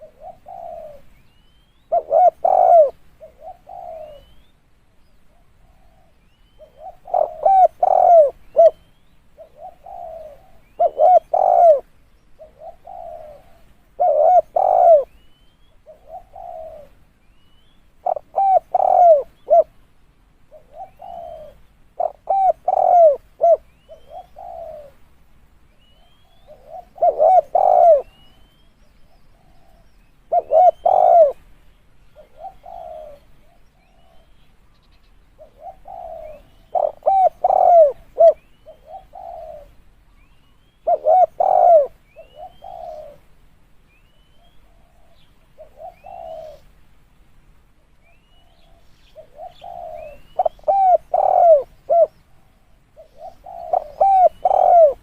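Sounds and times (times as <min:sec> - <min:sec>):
dove cooing: 0:00.0 - 0:04.4, 0:05.2 - 0:17.2, 0:17.9 - 0:19.8, 0:20.5 - 0:25.0, 0:25.8 - 0:34.4, 0:35.3 - 0:43.3, 0:44.1 - 0:46.8, 0:48.1 - 0:55.0.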